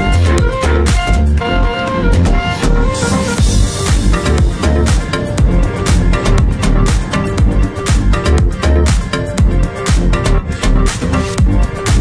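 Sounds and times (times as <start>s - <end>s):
upbeat music with drum beat: 0.0s - 12.0s.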